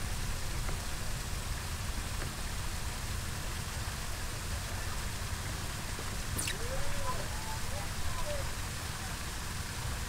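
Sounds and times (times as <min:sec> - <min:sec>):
water rushing through spillway: 0:00.0 - 0:10.0.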